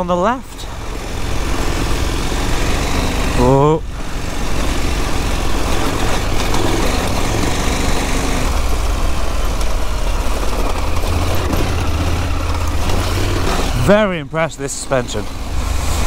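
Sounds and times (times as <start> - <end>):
motorcycle engine at low revs: 0.0 - 16.0
wind: 0.0 - 16.0
tyres on gravel: 0.7 - 16.0.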